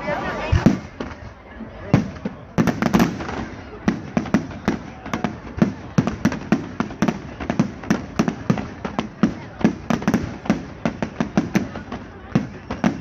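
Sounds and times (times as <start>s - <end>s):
fireworks banging: 0.1s - 13.0s.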